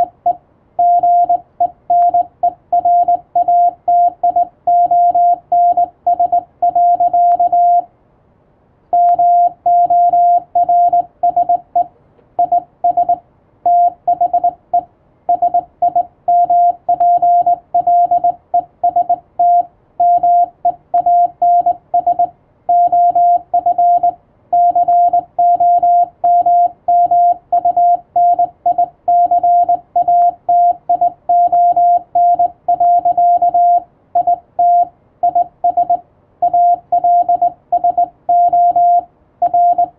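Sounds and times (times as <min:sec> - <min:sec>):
morse code tone: 0:00.0 - 0:07.9, 0:09.0 - 0:39.9.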